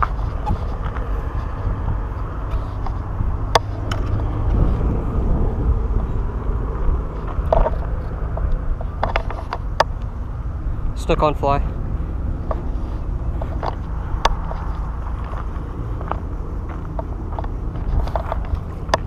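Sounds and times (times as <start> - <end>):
wind on microphone: 0.0 - 11.0, 11.6 - 19.0
road traffic rumble: 0.0 - 19.0.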